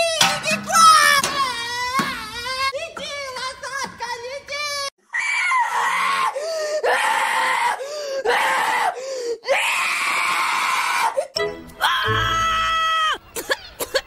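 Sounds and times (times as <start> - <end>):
boy screaming: 0.0 - 13.2.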